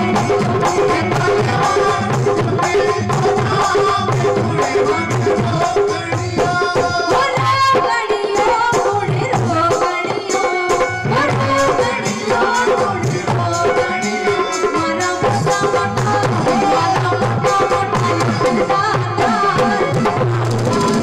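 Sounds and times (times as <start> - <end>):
devotional music: 0.0 - 21.0
hand drum rhythm: 0.0 - 21.0.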